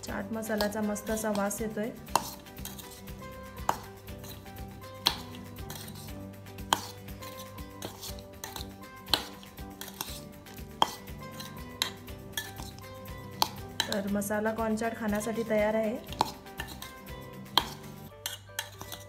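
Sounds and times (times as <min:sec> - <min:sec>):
spoon scraping through wet kernels: 0:00.0 - 0:19.0
spoon clinking against steel bowl: 0:00.4 - 0:14.2, 0:15.2 - 0:19.0.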